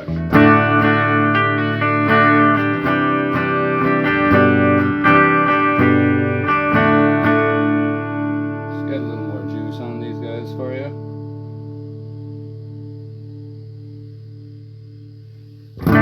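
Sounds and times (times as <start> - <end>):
electric guitar chords and notes: 0.0 - 16.0.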